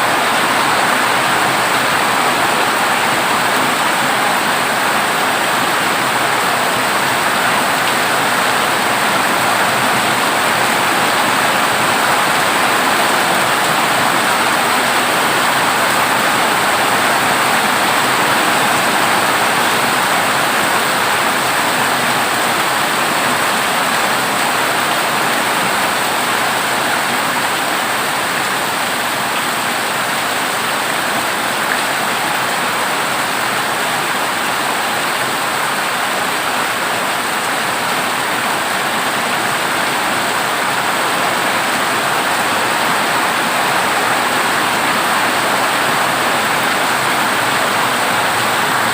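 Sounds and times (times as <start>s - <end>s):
heavy rain on a metal roof: 0.0s - 48.9s.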